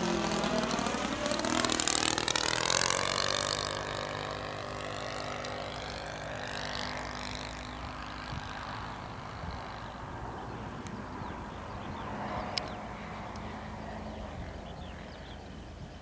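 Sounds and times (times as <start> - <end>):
engine passing by: 0.0 - 16.0.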